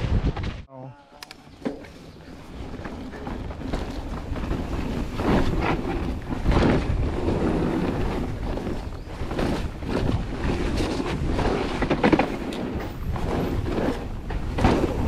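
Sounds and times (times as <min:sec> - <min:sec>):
bike tyres and frame rattling: 0:01.5 - 0:15.0
wind buffeting microphone: 0:01.8 - 0:15.0.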